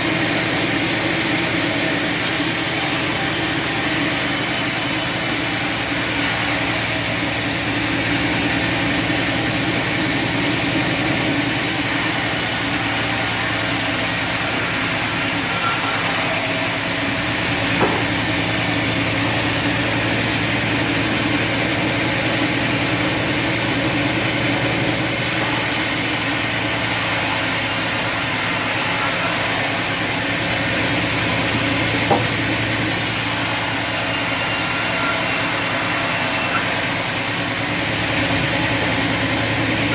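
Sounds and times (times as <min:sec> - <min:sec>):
bandsaw cutting wood: 0:00.0 - 0:39.9.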